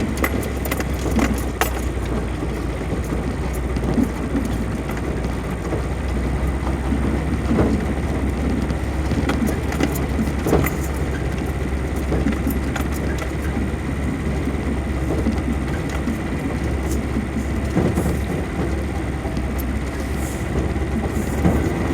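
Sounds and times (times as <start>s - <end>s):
off-road vehicle engine rumble: 0.0s - 21.9s
rattles and knocks: 0.0s - 21.9s.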